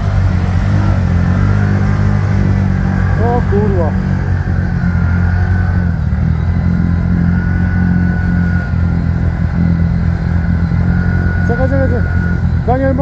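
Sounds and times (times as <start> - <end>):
atv engine running: 0.0 - 13.0
thin steady whine: 0.0 - 13.0.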